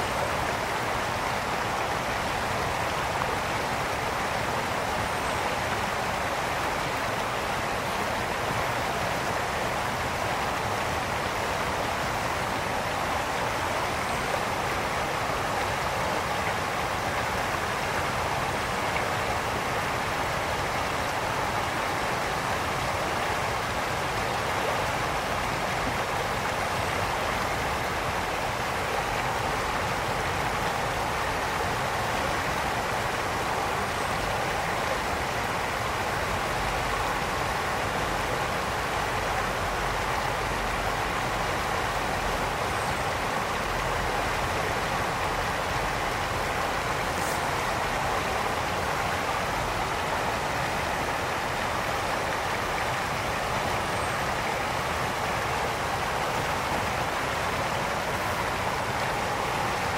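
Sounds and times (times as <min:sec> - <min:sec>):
brook water flowing over stones: 0:00.0 - 0:59.9.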